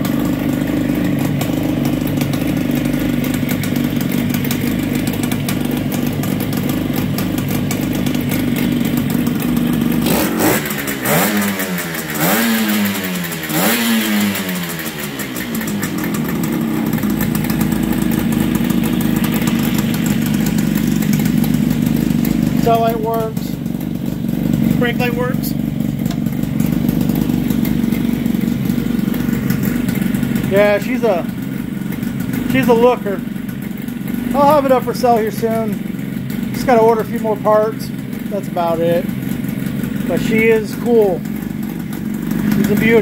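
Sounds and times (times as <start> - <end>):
motorcycle engine idling and revving: 0.0 - 43.0.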